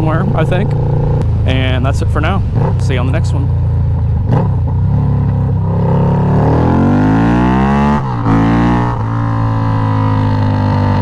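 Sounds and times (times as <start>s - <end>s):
motorcycle accelerating with gear shifts: 0.0s - 11.0s.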